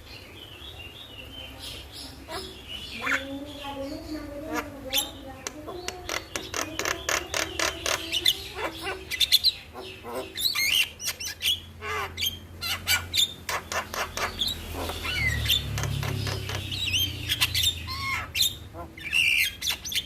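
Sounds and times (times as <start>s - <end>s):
mynas chattering: 1.2s - 20.0s.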